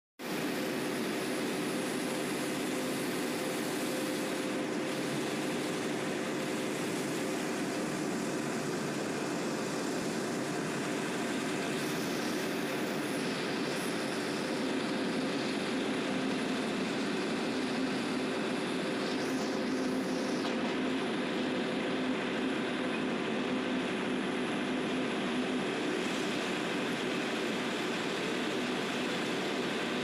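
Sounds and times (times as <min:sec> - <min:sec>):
diesel train engine and wheels: 0:00.2 - 0:30.0.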